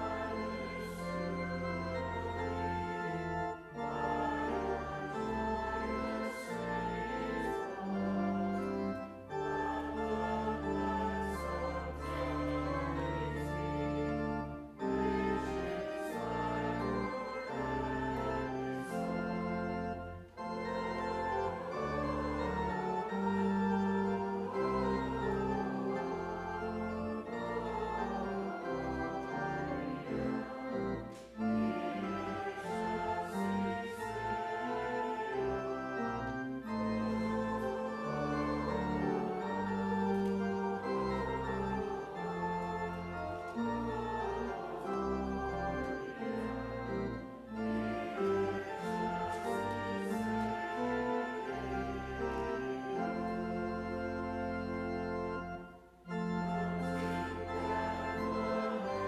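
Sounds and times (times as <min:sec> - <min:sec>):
church organ playing a hymn: 0:00.0 - 0:59.0.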